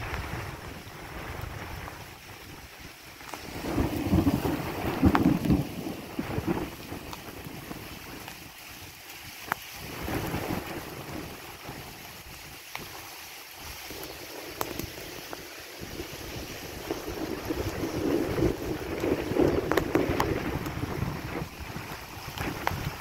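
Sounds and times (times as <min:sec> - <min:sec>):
steady hiss: 0:00.0 - 0:23.0
wind buffeting microphone: 0:00.0 - 0:23.0.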